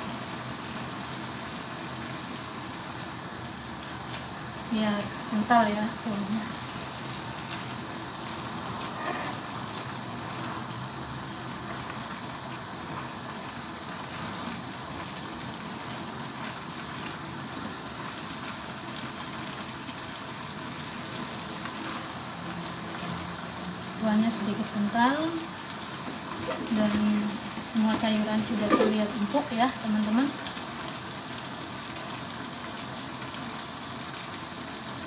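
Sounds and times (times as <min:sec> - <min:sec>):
broth bubbling in a wok: 0:00.0 - 0:35.0.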